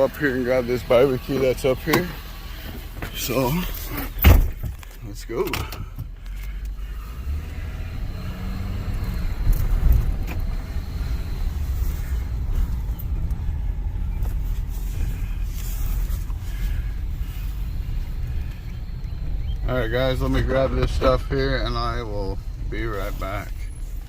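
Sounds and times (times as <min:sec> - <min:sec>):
pickup truck driving: 0:00.0 - 0:24.0.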